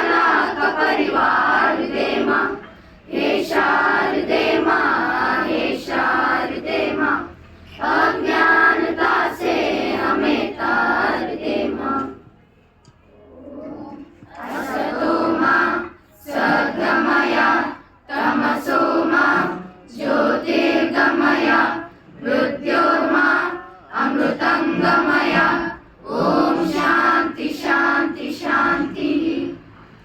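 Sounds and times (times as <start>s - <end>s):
children chanting a prayer: 0.0s - 12.3s, 13.1s - 30.0s.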